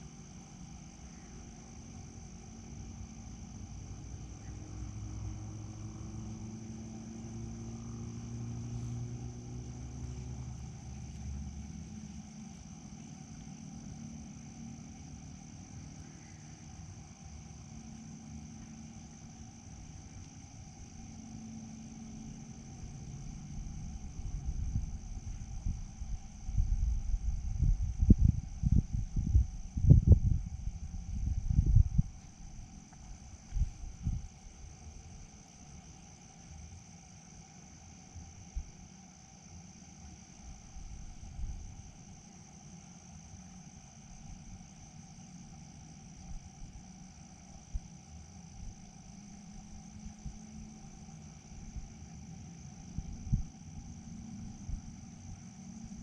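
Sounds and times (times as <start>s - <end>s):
low droning rumble: 0.0s - 36.2s, 40.1s - 56.0s
crickets trilling: 0.0s - 56.0s.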